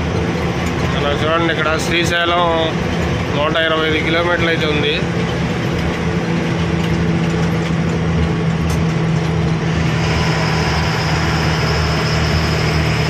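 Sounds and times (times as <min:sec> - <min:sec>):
road noise: 0:00.0 - 0:13.0
truck diesel engine droning: 0:00.0 - 0:13.0.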